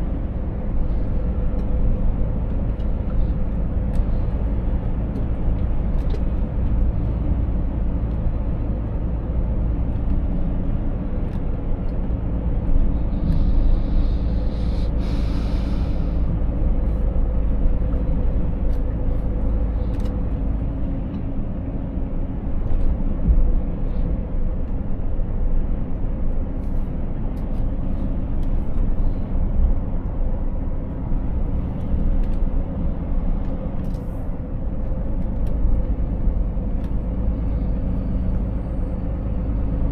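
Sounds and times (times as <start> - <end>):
road rumble: 0.0 - 39.9
truck diesel engine running: 0.0 - 39.9.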